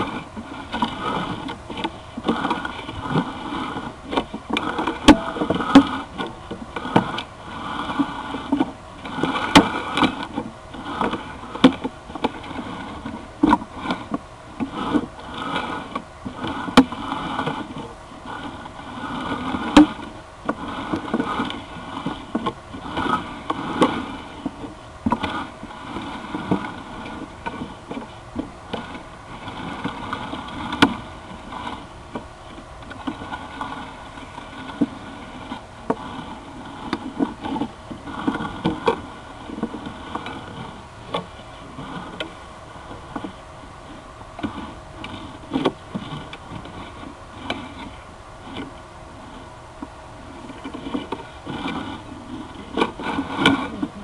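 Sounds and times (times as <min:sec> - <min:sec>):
cable knocking and scraping in pipe: 0:00.0 - 0:43.4, 0:49.8 - 0:54.0
steady hum: 0:00.0 - 0:54.0.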